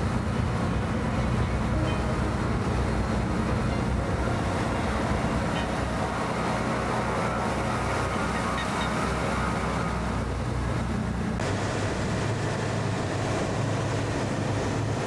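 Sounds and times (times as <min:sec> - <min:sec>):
engine running with hiss: 0:00.0 - 0:15.0.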